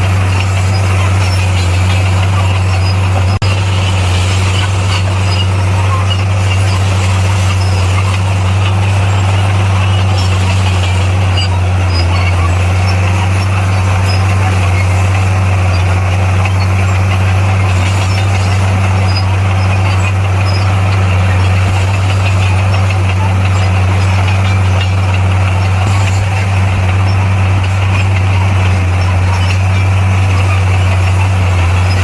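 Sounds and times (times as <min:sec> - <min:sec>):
diesel engine humming: 0:00.0 - 0:32.0.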